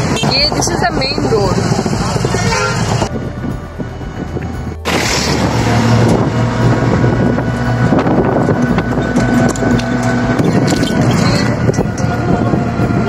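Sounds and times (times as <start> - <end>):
auto-rickshaw engine hum: 0.0 - 13.0
road noise: 0.0 - 13.0
wind buffeting microphone: 0.0 - 13.0.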